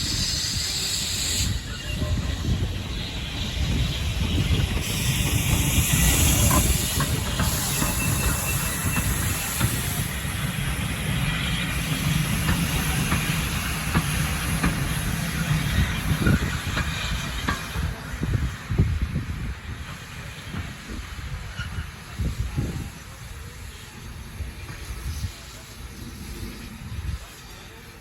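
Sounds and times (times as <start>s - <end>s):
steam hissing: 0.0s - 28.0s
steam train rumble: 0.0s - 28.0s.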